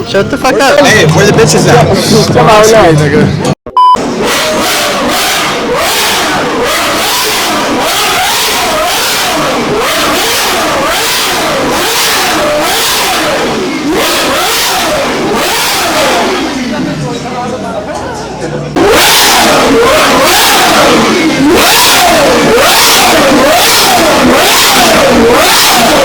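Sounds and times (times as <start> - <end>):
car engine revving: 0.0 - 18.0, 18.6 - 26.0.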